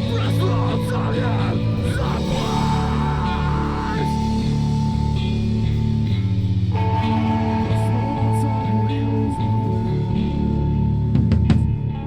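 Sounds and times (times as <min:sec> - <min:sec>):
live rock band playing: 0:00.0 - 0:12.0
steady high tone: 0:00.0 - 0:12.0.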